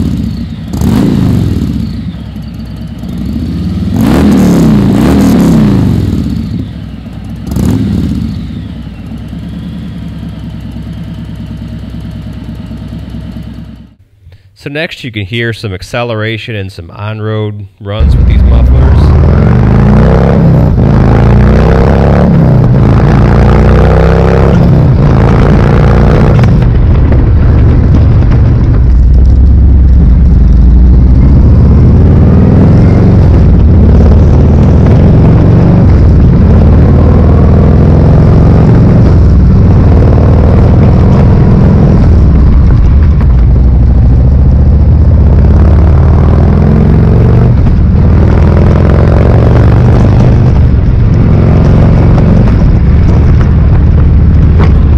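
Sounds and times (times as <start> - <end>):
motorcycle exhaust accelerating: 0.0 - 14.1, 18.0 - 54.9.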